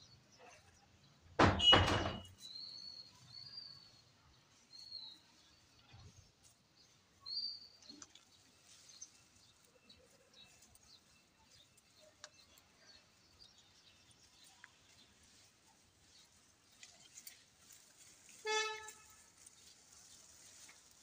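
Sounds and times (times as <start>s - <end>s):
bird chirp: 0.0s - 6.2s, 6.8s - 17.4s.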